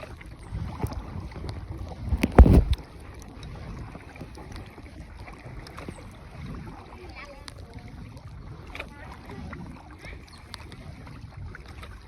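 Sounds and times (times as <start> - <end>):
water noise: 0.0 - 12.0
wind on microphone: 0.0 - 12.0.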